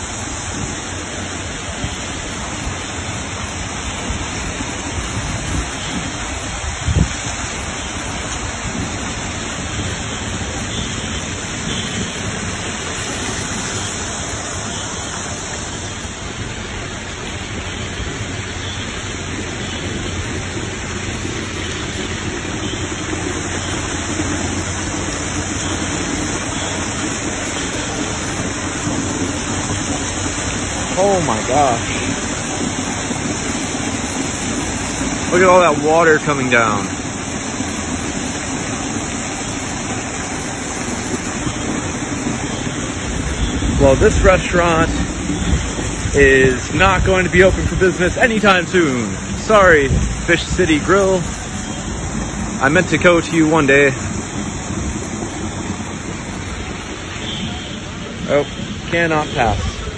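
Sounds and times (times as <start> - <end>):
falling water rushing: 0.0 - 59.9.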